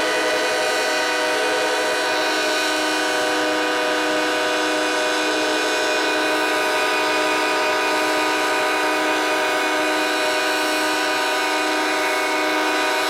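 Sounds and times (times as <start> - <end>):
locomotive air horns chord: 0.0 - 13.0.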